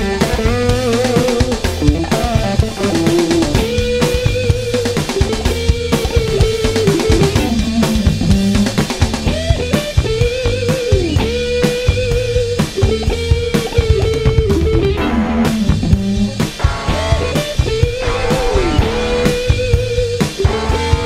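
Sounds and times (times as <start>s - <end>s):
bass: 0.0s - 21.0s
electric guitar long bent notes: 0.0s - 21.0s
steady drum beat: 0.0s - 21.0s.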